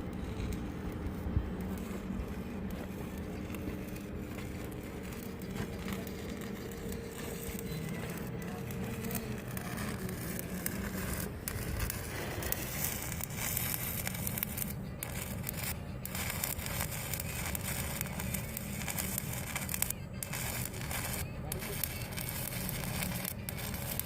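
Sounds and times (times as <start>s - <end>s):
steady low hum: 0.0s - 24.0s
welding arc crackling: 0.0s - 24.0s.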